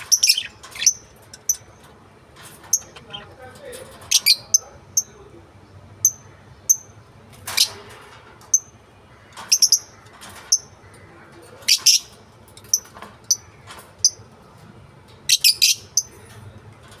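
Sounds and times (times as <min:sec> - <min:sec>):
lovebirds chirping and squawking: 0:00.0 - 0:17.0.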